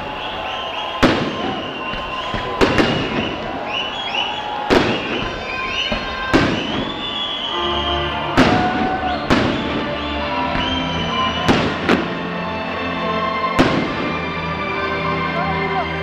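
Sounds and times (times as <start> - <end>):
fireworks whistling: 0.0 - 12.2, 13.6 - 14.3
fireworks bangs: 0.0 - 12.3, 13.6 - 14.4.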